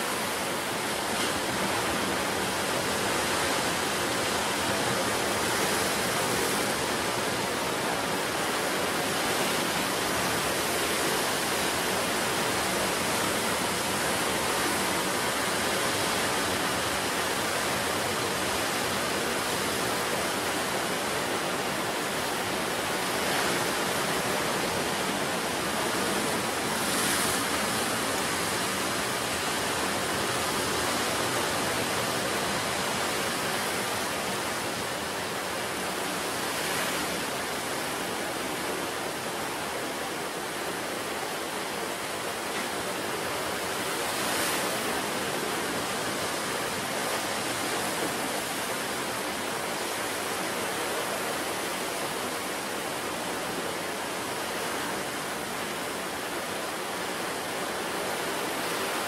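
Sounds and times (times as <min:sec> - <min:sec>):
ocean surf washing: 0:00.0 - 0:59.0.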